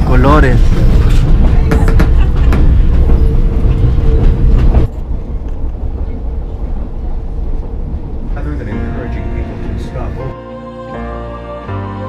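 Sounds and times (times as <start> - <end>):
train coach rumbling and rattling: 0.0 - 10.4.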